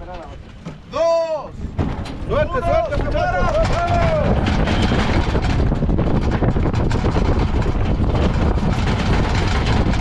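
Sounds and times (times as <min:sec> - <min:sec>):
wind buffeting microphone: 0:00.0 - 0:10.0
wooden carts rattling on road: 0:00.0 - 0:10.0.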